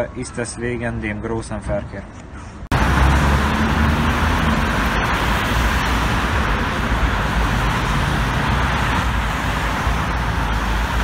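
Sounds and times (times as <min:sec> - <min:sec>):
road traffic passing: 0:02.1 - 0:11.0.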